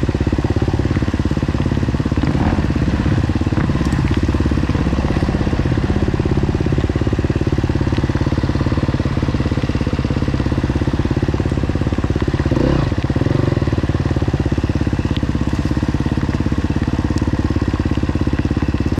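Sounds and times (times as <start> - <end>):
dirt bike engine running: 0.0 - 18.9.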